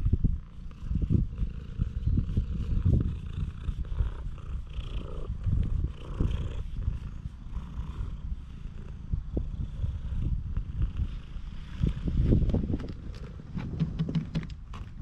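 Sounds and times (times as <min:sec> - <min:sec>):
cat purring: 0:00.0 - 0:12.2.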